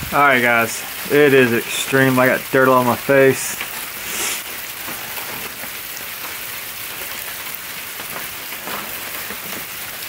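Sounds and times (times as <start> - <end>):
sleet on a metal roof: 0.0 - 10.0.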